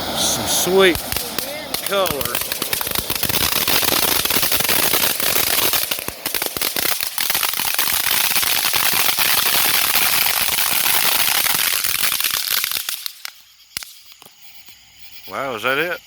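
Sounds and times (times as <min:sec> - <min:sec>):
fountain firework hissing and crackling: 0:00.0 - 0:14.4.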